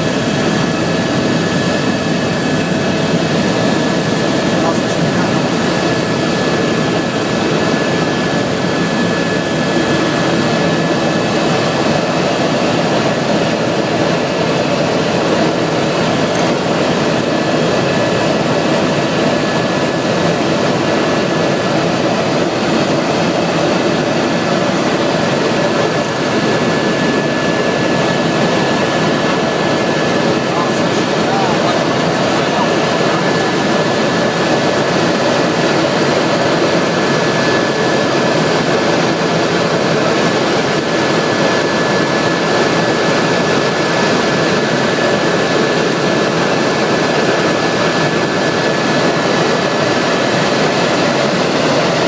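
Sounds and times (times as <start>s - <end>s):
helicopter rotor drone: 0.0s - 52.0s
thin high turbine whine: 0.0s - 52.0s.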